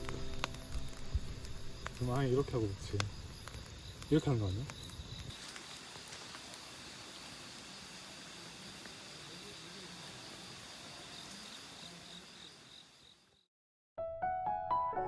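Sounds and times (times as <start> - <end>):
even hiss: 0.0 - 13.2
insects chirping: 0.0 - 13.5.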